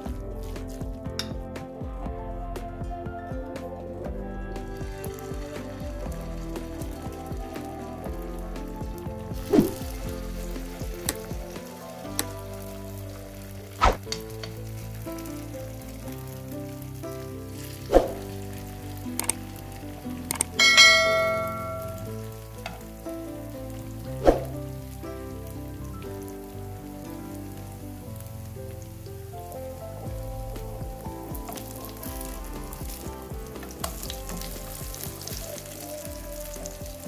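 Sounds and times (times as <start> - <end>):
fritters sizzling in hot oil: 4.8 - 21.2, 21.8 - 37.0.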